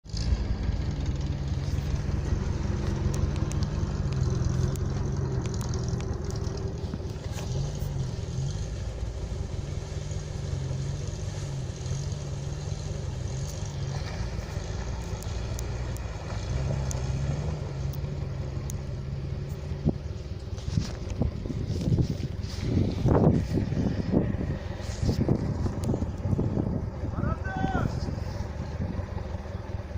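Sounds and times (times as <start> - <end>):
vehicle engine revving: 0.0 - 29.9.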